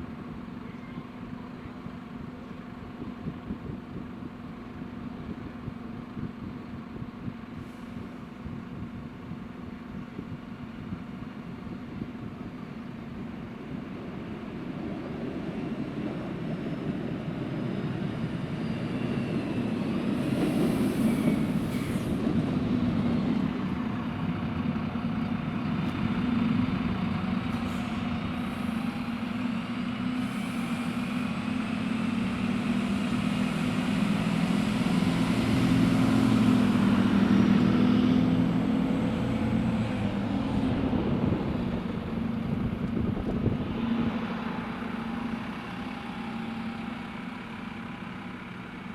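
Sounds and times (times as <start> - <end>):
diesel train engine running: 0.0 - 48.9.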